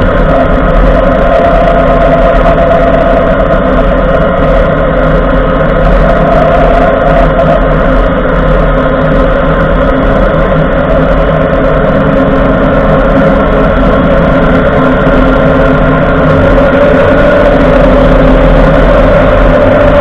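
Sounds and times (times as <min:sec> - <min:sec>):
truck road and drivetrain noise: 0:00.0 - 0:20.0.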